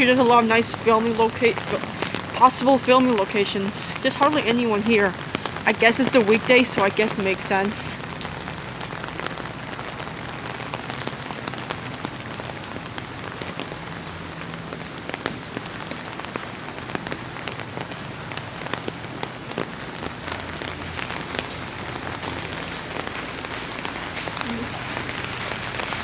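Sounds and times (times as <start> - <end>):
heavy rain pouring: 0.0 - 26.0
raindrops hitting close by: 0.0 - 26.0.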